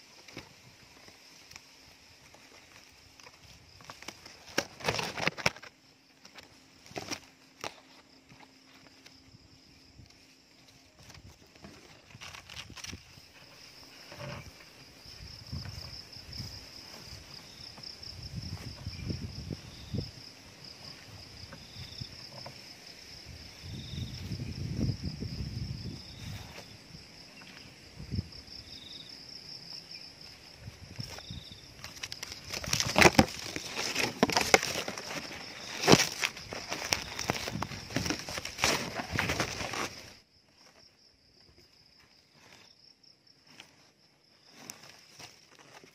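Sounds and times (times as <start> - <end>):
insects droning: 0.0 - 45.9
leaves rustling against camera: 0.0 - 45.9.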